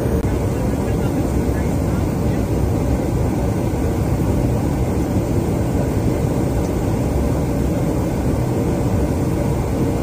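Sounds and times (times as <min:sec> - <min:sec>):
jet engine and airflow rumble: 0:00.0 - 0:10.0.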